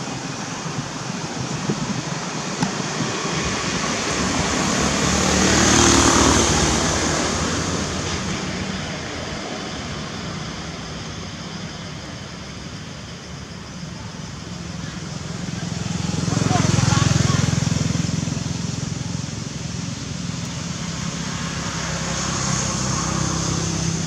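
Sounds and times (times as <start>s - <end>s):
passing vehicle engine: 0.0s - 11.2s, 15.0s - 24.0s.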